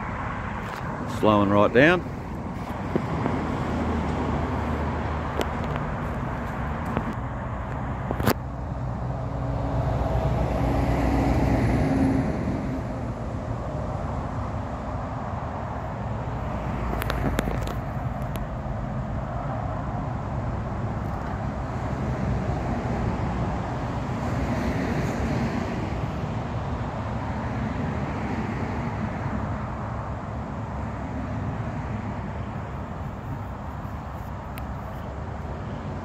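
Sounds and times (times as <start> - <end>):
distant diesel locomotive drone: 0.0 - 36.0.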